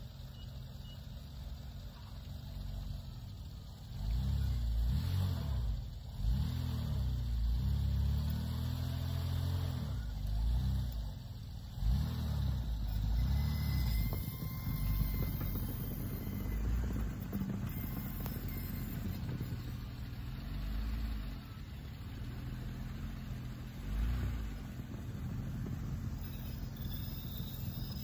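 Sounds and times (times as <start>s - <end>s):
minivan engine revving: 0.0s - 28.0s.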